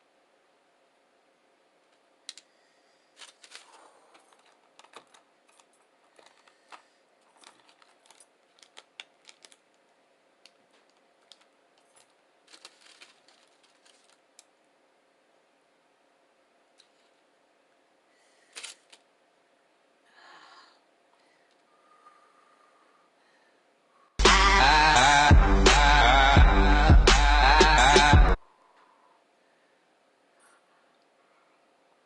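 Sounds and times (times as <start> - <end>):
faint room hiss: 0.0 - 24.2, 28.4 - 32.0.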